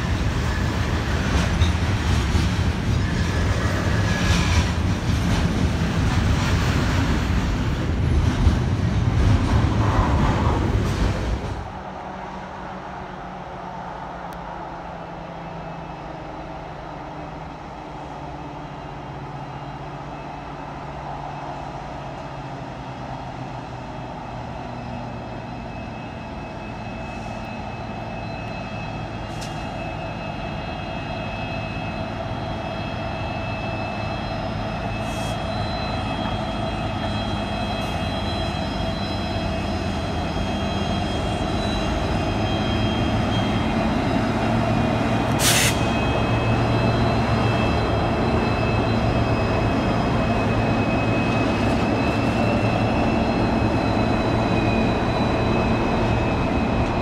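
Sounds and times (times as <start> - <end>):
locomotive engines droning: 0.0 - 57.0.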